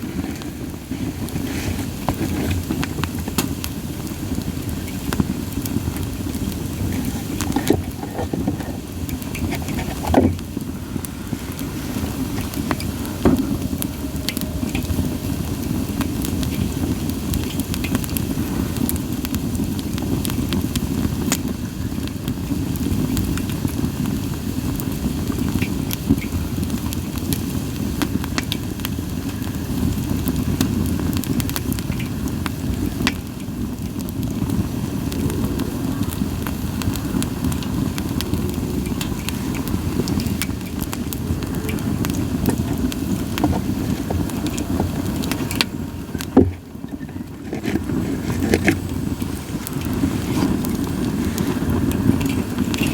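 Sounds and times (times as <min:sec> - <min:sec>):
fire pops: 0:00.0 - 0:52.9
logs crackling in campfire: 0:00.0 - 0:52.9.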